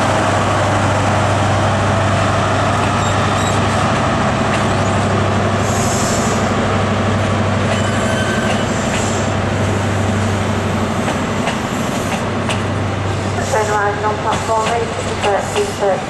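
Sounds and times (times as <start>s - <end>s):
diesel train engine hum: 0.0s - 16.0s.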